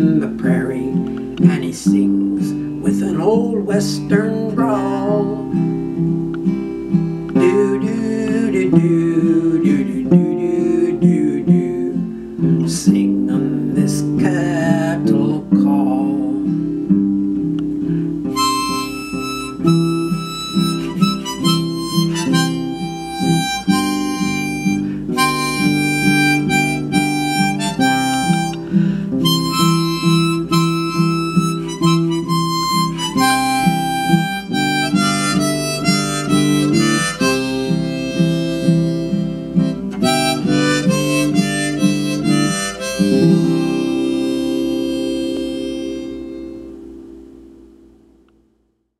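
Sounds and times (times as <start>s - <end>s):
harmonica melody: 0.0s - 12.7s, 13.4s - 47.3s
strummed acoustic guitar: 0.0s - 48.1s.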